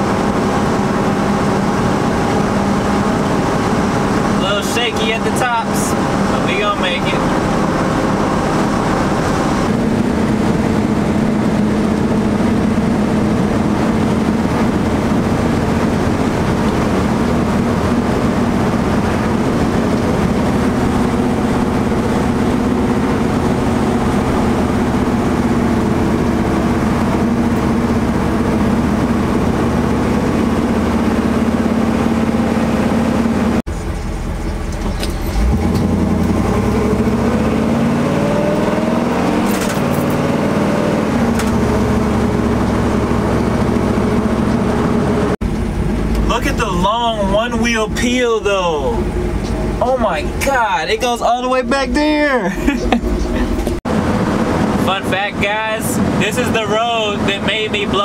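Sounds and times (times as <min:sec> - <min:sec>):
truck engine cruising and accelerating: 0:00.0 - 0:58.0.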